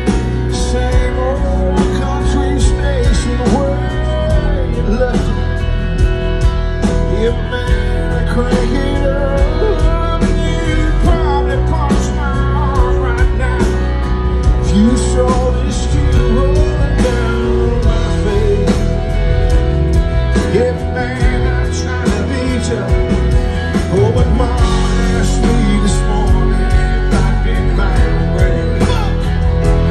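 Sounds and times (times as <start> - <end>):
live country band playing ballad: 0.0 - 29.9
man singing: 0.0 - 29.9.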